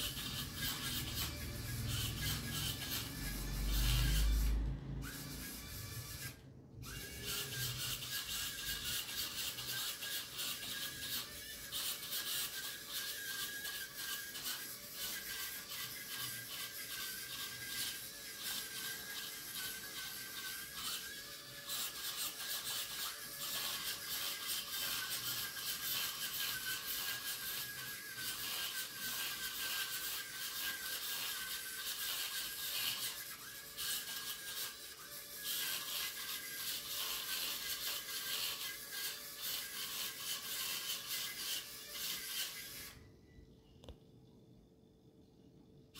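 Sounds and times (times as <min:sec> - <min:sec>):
small motors buzzing and whining: 0:00.0 - 0:43.1.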